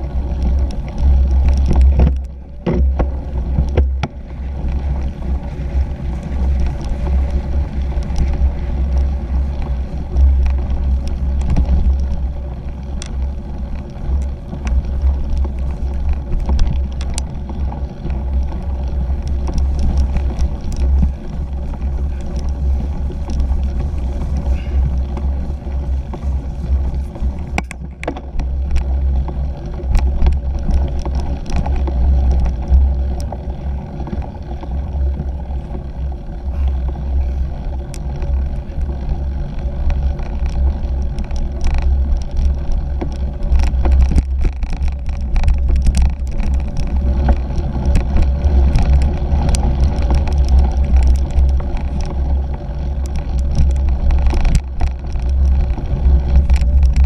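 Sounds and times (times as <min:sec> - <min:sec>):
bike clicks and rattles: 0:00.0 - 0:57.0
bike rumbling over grass: 0:00.0 - 0:57.0
wind on microphone: 0:00.0 - 0:57.0.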